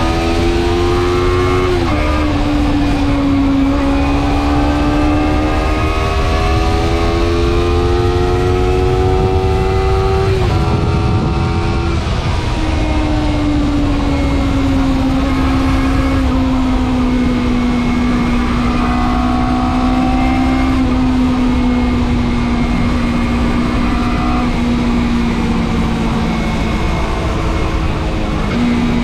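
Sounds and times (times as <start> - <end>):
motorcycle engine cruising: 0.0 - 29.0
wind and road rumble: 0.0 - 29.0.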